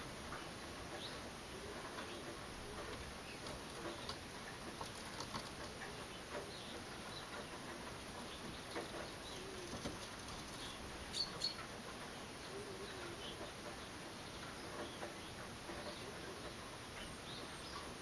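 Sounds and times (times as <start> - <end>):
birds chirping: 0.2 - 18.0.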